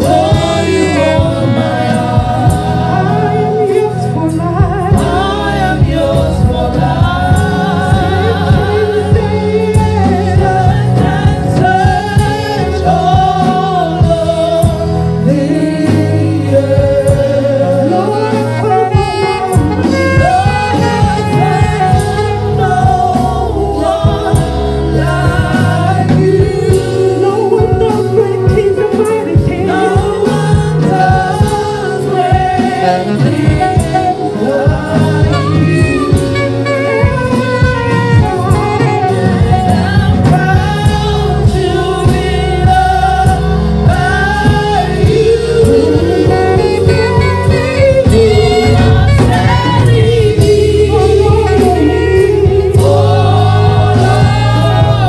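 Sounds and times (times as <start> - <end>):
band accompaniment: 0.0 - 55.0
women singing gospel: 0.0 - 55.0.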